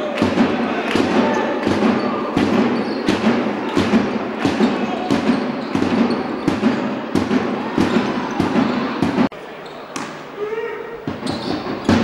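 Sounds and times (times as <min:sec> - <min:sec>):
indoor crowd din: 0:00.0 - 0:12.0.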